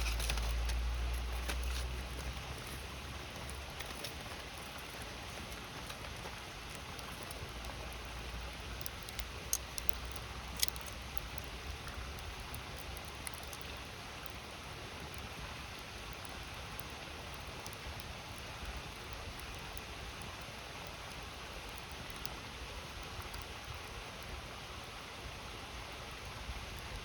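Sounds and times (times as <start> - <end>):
wood fire crackling and popping: 0.0 - 25.2.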